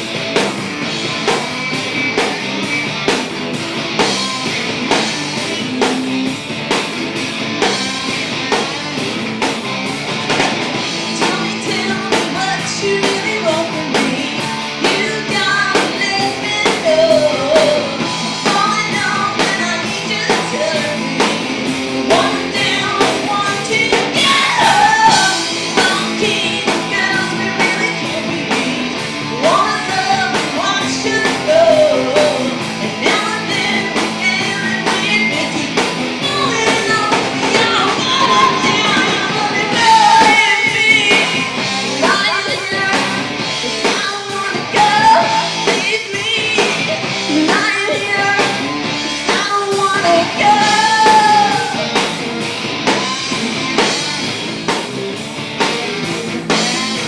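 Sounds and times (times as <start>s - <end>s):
live band playing: 0.0s - 57.0s
woman singing rock song: 0.0s - 57.0s.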